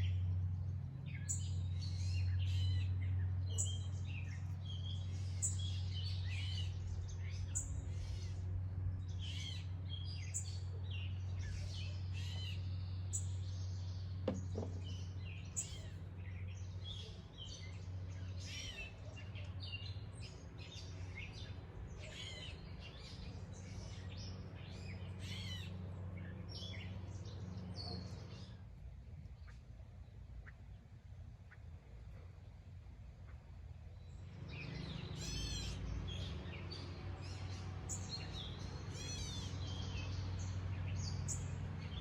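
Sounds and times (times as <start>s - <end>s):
songbirds chirping and singing: 0.0s - 42.0s.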